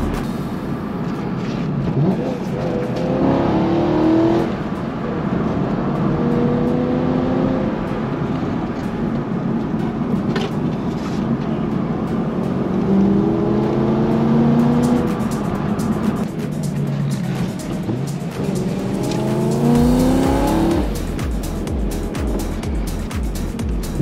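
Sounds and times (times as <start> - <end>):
car engine accelerating: 0.0 - 24.0
tyre and road noise: 0.0 - 24.0.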